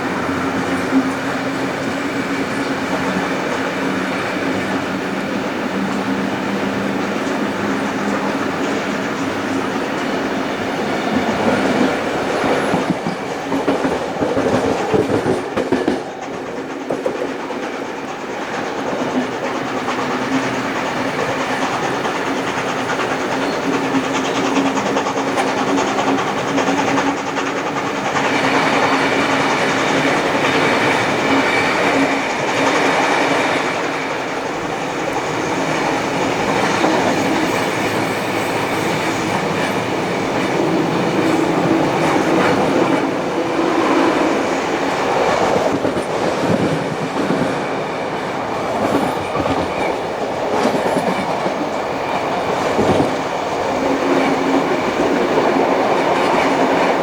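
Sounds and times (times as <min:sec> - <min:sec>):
train carriages rumbling on rails: 0:00.0 - 0:57.0.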